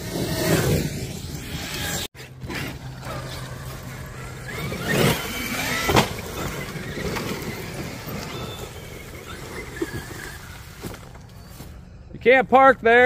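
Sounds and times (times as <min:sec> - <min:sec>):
electric motors whining: 0:00.0 - 0:12.1.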